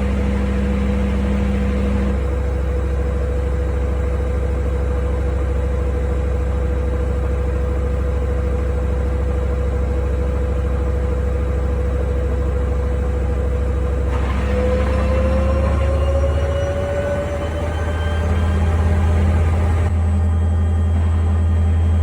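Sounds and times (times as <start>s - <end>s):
washing machine motor whine: 0.0s - 22.0s.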